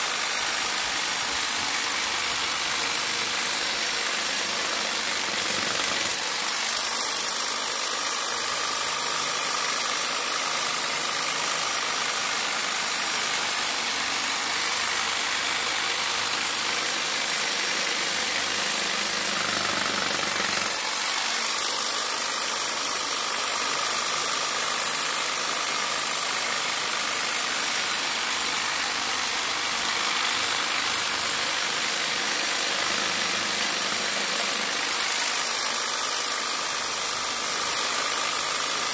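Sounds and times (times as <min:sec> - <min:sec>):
electric jigsaw sawing foam: 0:00.0 - 0:38.9.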